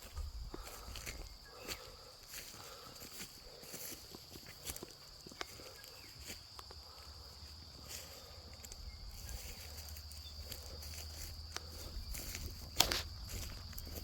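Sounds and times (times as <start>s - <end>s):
footsteps crunching: 0.0s - 14.0s
high-pitched insect trill: 0.0s - 14.0s.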